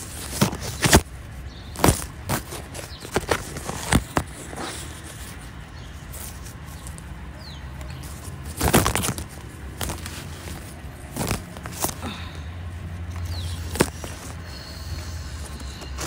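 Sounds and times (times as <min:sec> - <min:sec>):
hands handling pieces: 0:01.7 - 0:07.2, 0:07.8 - 0:16.0.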